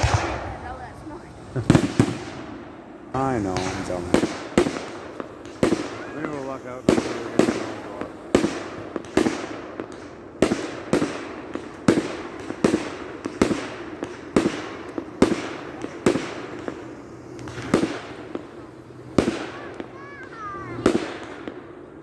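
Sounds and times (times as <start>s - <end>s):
firework shells bursting: 0.0s - 22.0s.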